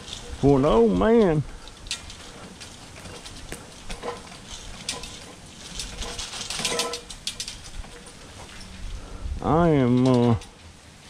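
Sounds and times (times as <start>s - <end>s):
walker rattling over leaves: 0.0s - 11.0s.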